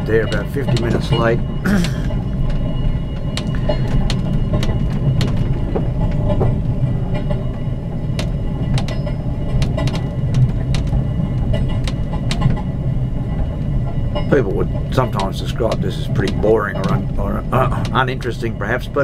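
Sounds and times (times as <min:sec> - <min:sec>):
wheels clicking over rail joints: 0:00.0 - 0:18.8
train low rumble: 0:00.0 - 0:19.0.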